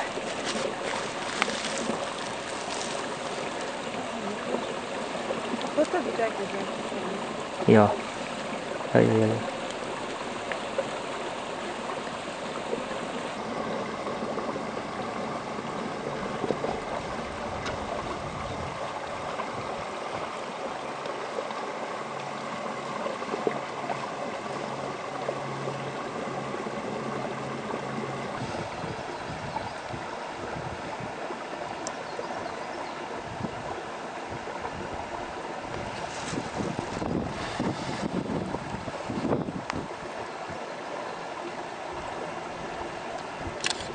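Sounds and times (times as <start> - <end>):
brook flowing: 0.0 - 43.9.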